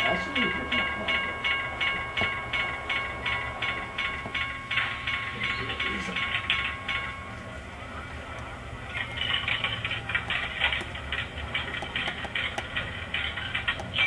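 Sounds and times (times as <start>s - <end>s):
model train rhythmic clicking: 0.0s - 14.0s.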